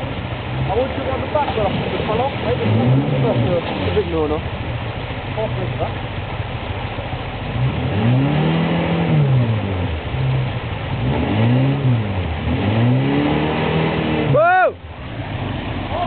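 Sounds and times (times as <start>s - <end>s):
engine revving: 0.0s - 4.5s, 7.4s - 16.0s
river water rushing: 0.0s - 16.0s.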